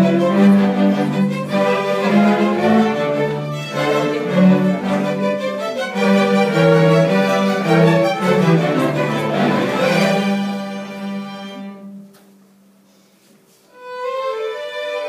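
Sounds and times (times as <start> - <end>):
string orchestra playing: 0.0 - 12.3, 13.7 - 15.0.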